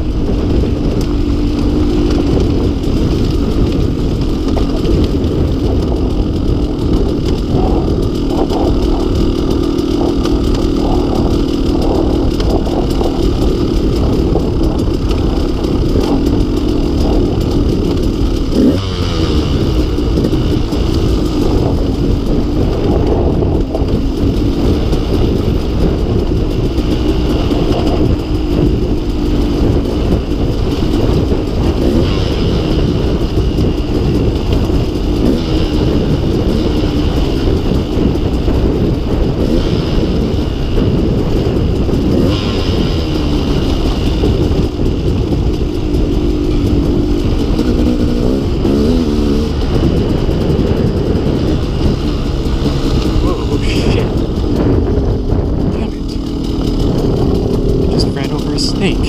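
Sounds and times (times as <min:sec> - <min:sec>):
two-stroke motorcycle engine: 0:00.0 - 0:59.0.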